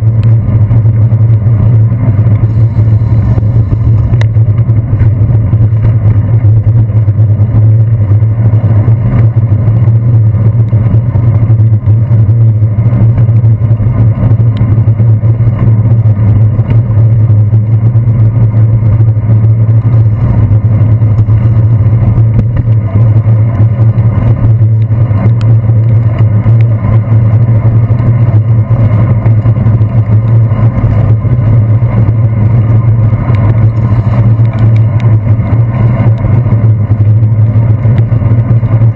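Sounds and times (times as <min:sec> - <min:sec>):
low rumble of wind: 0:00.0 - 0:38.9
road vibration rumble: 0:00.0 - 0:38.9.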